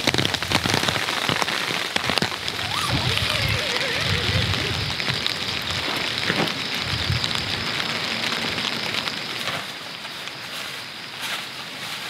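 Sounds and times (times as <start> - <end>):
rain pattering on surfaces: 0.0 - 12.0.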